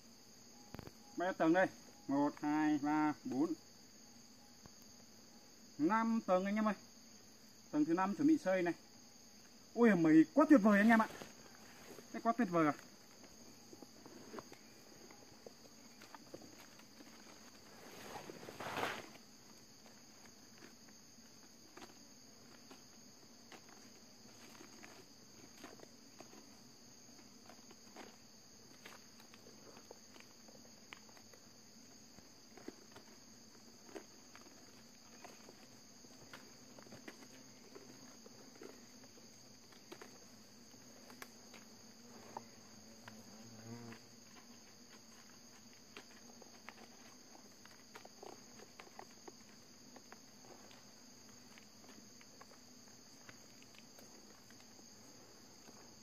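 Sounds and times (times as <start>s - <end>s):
forest insects droning: 0.0s - 56.0s
wasp nest crackling: 0.4s - 56.0s.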